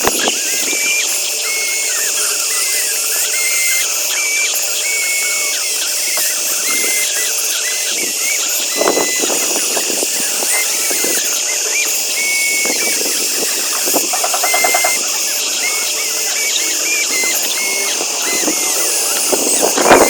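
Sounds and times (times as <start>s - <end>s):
rapid pulsing buzz: 0.0s - 20.0s
small electric motors whining: 0.0s - 20.0s.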